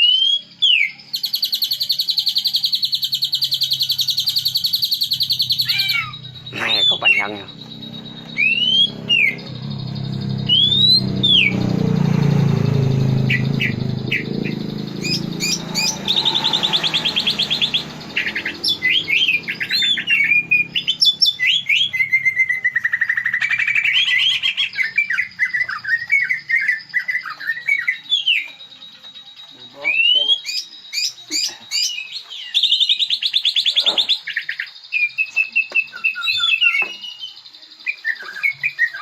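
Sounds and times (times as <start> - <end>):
bird singing whistles and trills: 0.0 - 39.0.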